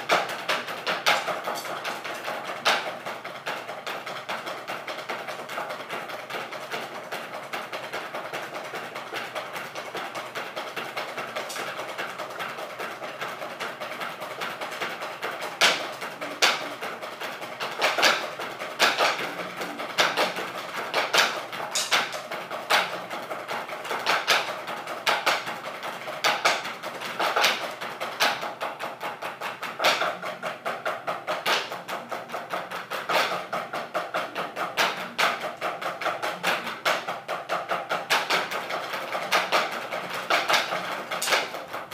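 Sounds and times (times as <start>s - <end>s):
drumsticks on practice pads: 0.0s - 41.9s.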